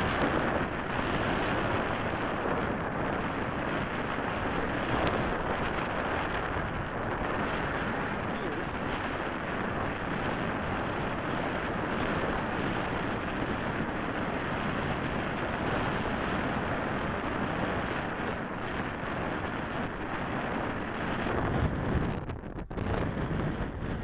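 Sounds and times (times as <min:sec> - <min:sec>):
bicycle tyre noise on road: 0:00.0 - 0:24.0
wind noise on microphone: 0:00.0 - 0:24.0.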